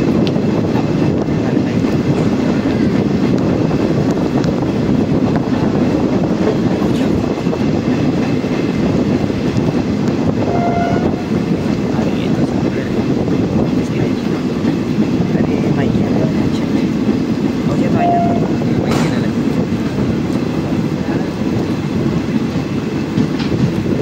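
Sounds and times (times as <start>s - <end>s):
rushing air: 0.0s - 24.0s
train wheels rumbling on rail: 0.0s - 24.0s.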